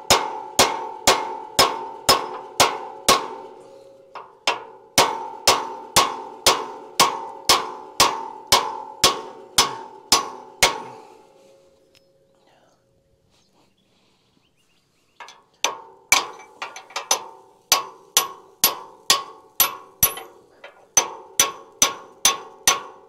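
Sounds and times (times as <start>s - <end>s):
hammer ringing on steel drift: 0.0s - 11.4s, 15.7s - 23.0s.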